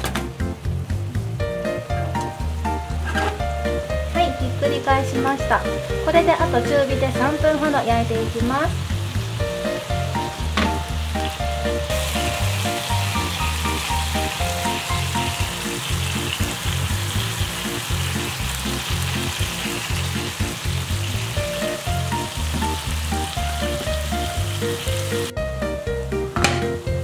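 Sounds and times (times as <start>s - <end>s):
background music: 0.0s - 27.0s
patties sizzling in frying pan: 0.2s - 25.4s.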